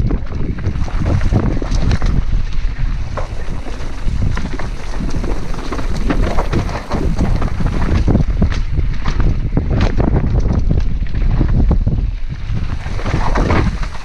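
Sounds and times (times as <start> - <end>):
bike rattling clicks and knocks: 0.0 - 14.0
wind buffeting microphone: 0.0 - 14.0.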